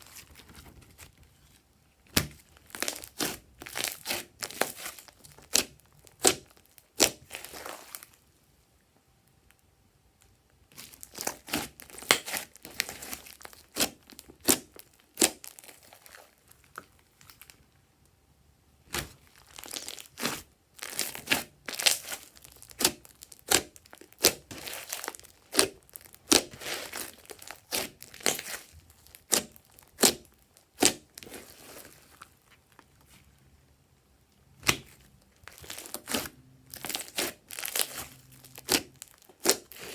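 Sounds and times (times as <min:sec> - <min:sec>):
slime squished by hand: 0:02.1 - 0:08.2, 0:10.7 - 0:17.5, 0:18.8 - 0:33.2, 0:34.6 - 0:39.9.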